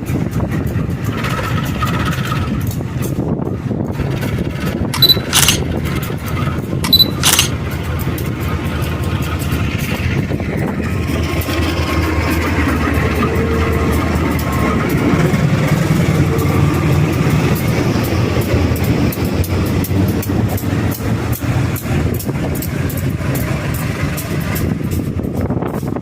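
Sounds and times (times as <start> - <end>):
train wheels and machinery: 0.0 - 26.0.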